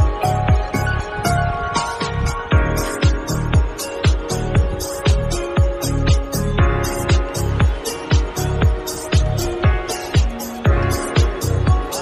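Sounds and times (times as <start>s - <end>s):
crisp high percussion: 0.0s - 12.0s
deep kick drum beat: 0.0s - 12.0s.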